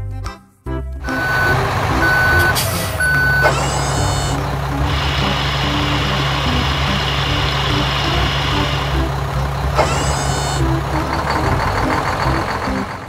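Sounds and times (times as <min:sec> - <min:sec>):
short rising tone: 0:01.0 - 0:13.0
truck engine rumble: 0:01.0 - 0:13.0.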